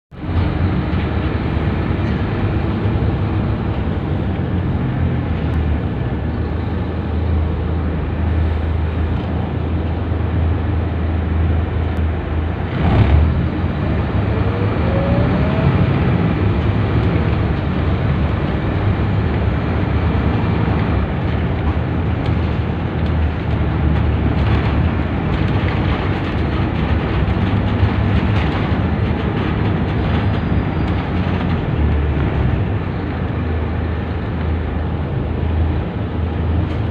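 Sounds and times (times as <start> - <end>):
bus diesel engine running: 0.1 - 36.9
road and body noise: 0.1 - 36.9.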